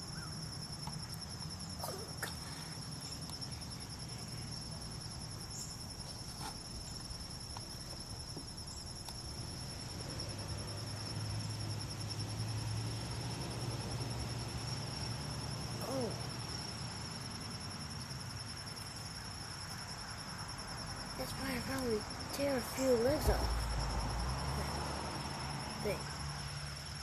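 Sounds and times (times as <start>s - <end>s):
crickets trilling: 0.0s - 27.0s.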